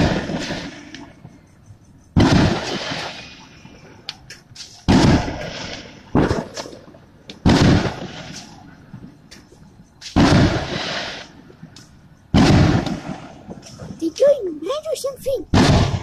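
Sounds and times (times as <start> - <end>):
fireworks bangs: 0.0 - 1.4, 2.1 - 9.4, 10.0 - 16.0.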